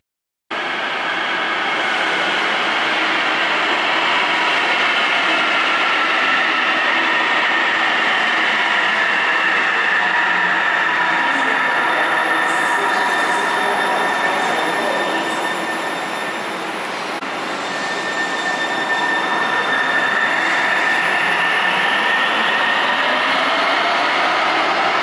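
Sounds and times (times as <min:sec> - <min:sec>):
train whine rising in pitch: 0:00.6 - 0:25.0.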